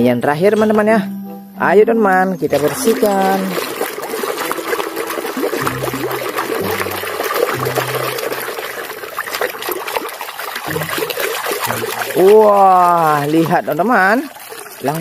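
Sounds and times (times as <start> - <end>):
running water splashing: 2.4 - 15.0.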